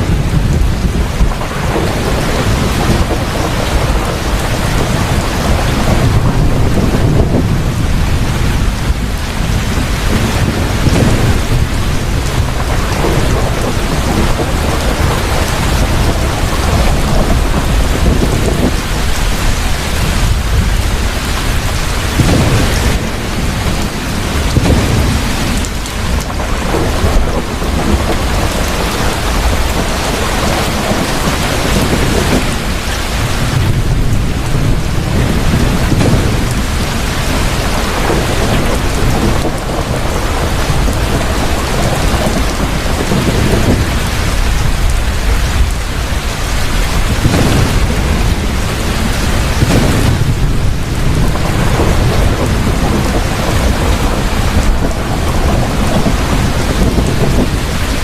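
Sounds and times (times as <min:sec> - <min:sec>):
heavy rain falling: 0:00.0 - 0:58.0
thunder rumbling: 0:00.0 - 0:58.0.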